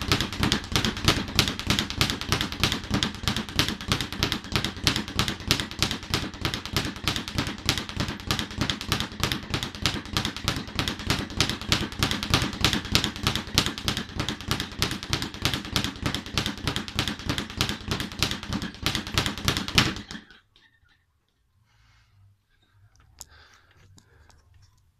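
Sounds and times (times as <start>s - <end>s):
speed bag rattling: 0.0s - 20.4s.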